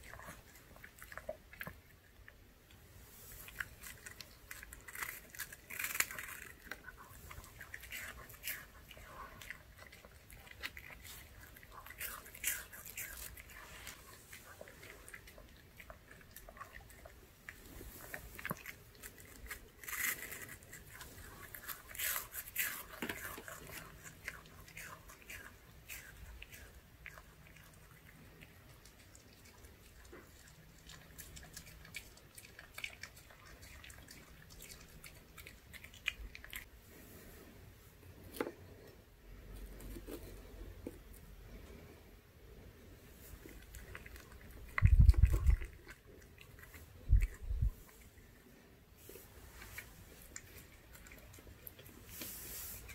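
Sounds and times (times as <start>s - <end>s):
dog chewing and lip smacking: 0.0s - 36.7s, 43.2s - 52.9s.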